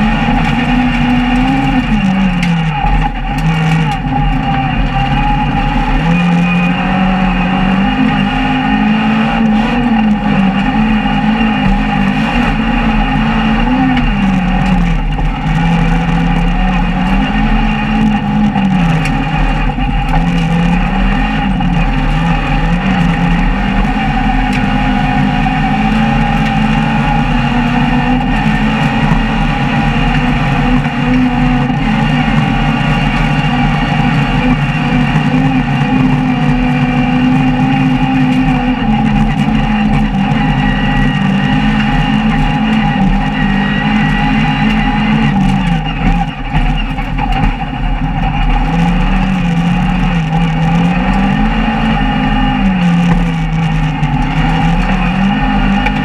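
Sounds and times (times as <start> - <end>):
car engine revving: 0.0 - 56.0
tyres rumbling on gravel: 0.0 - 56.0.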